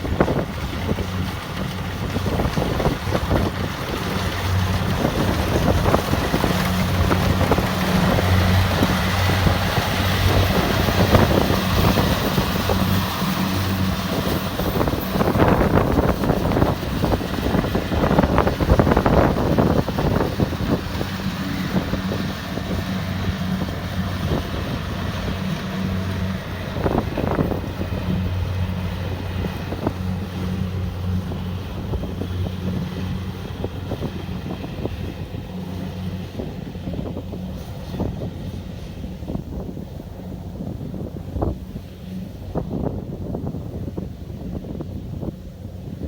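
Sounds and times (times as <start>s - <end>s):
diesel engine drone: 0.0s - 46.0s.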